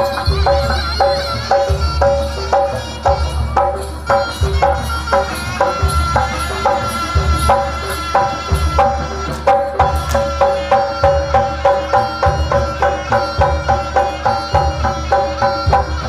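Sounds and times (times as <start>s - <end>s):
deep hand-drum beats: 0.0s - 16.0s
metal keyed percussion: 0.0s - 16.0s.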